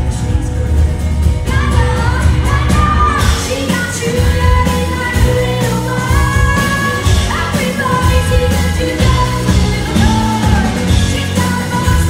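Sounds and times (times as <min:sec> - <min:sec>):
acoustic guitar: 0:00.0 - 0:12.0
drums: 0:00.0 - 0:12.0.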